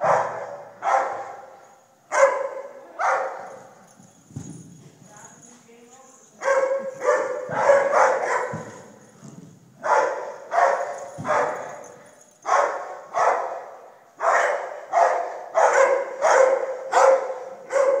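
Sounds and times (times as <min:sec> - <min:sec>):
dog barking: 0:00.0 - 0:03.8, 0:06.4 - 0:09.0, 0:09.8 - 0:18.0.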